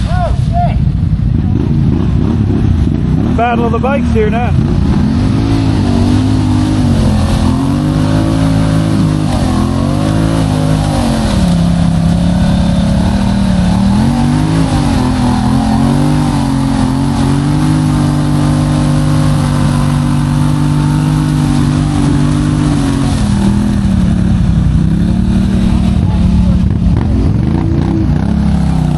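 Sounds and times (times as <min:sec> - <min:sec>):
atv engine running under load: 0:00.8 - 0:28.9.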